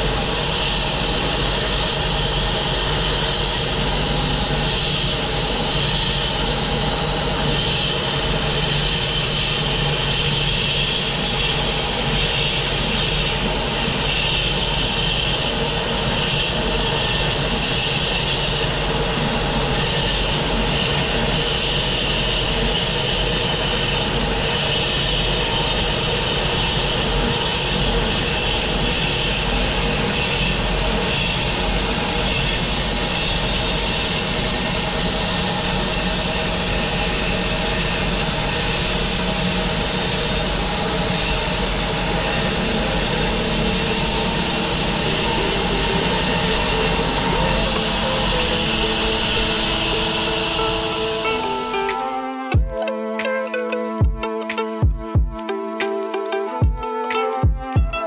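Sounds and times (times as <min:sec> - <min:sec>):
saw blade hissing through log: 0:00.0 - 0:51.8
sawmill engine running: 0:00.0 - 0:52.5.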